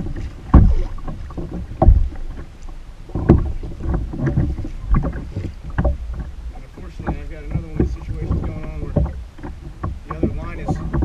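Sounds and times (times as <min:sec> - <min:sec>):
loud thumps on hull: 0:00.0 - 0:11.0
water slapping kayak hull: 0:00.0 - 0:11.0
wind on microphone: 0:00.0 - 0:11.0.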